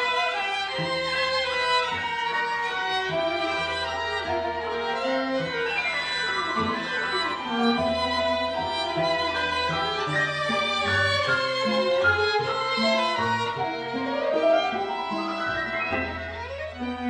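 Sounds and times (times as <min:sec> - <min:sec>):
violin: 0:00.0 - 0:17.0.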